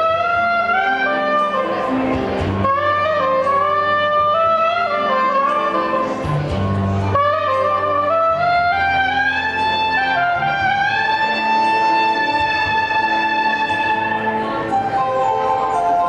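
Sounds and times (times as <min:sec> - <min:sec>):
backing track bass and keyboard: 0:00.0 - 0:16.0
soprano saxophone melody: 0:00.0 - 0:16.0.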